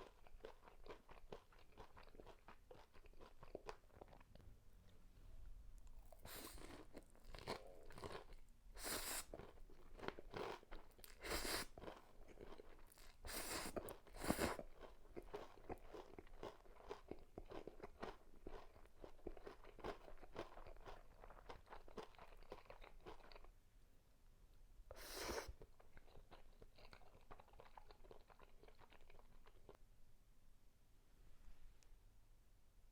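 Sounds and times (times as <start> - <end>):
crunchy chewing: 0.0 - 4.4, 5.8 - 23.5, 25.0 - 29.8.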